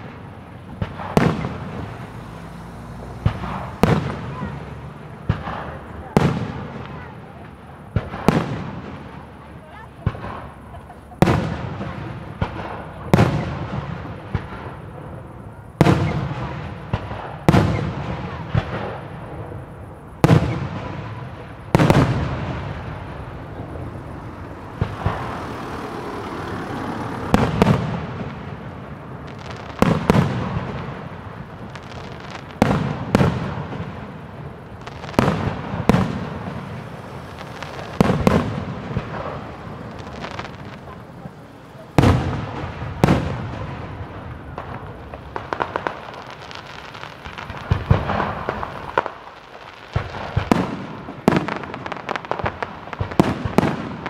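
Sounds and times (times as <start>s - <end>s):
small firework pops: 0.0s - 2.2s, 3.0s - 15.2s, 15.8s - 19.6s, 20.2s - 23.8s, 24.6s - 25.8s, 27.3s - 54.0s
firework shells bursting: 0.0s - 2.3s, 3.1s - 9.1s, 10.0s - 54.0s
rolling echo: 0.0s - 54.0s.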